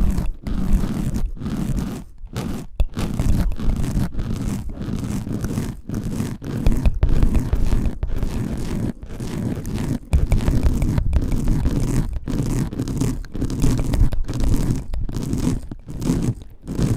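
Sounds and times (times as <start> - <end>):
ear-cleaning tool scraping microphone: 0.0 - 16.9.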